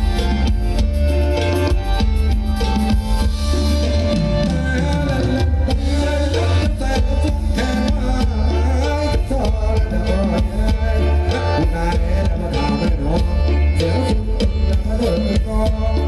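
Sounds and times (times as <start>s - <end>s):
heavy drum beat: 0.0s - 16.0s
loud band dance music: 0.0s - 16.0s.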